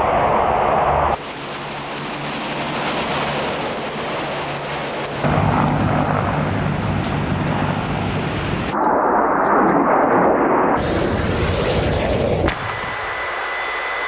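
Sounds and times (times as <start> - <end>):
broad rushing roar: 0.0 - 14.0
jet engine hum: 0.0 - 14.0.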